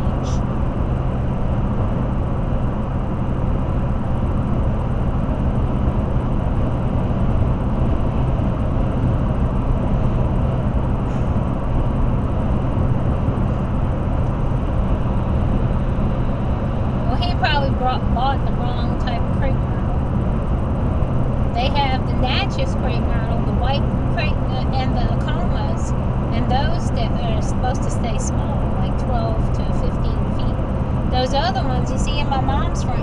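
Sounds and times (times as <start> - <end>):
car road noise at highway speed: 0.0 - 33.0.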